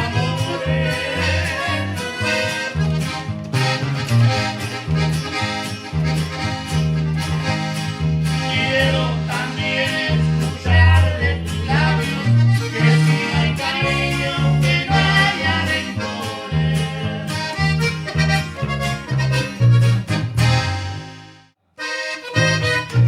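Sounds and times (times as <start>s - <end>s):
accordion melody: 0.0s - 23.0s
bass line: 0.0s - 23.0s.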